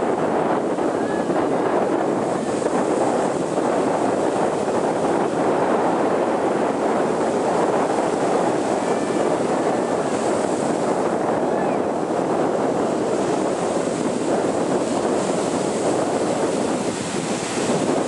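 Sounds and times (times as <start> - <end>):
ocean surf breaking: 0.0 - 18.0
wind on microphone: 0.0 - 18.0.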